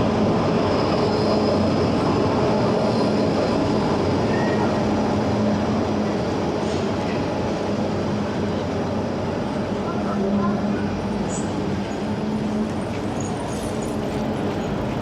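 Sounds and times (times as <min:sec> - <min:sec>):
rail vehicle rumbling: 0:00.0 - 0:15.0.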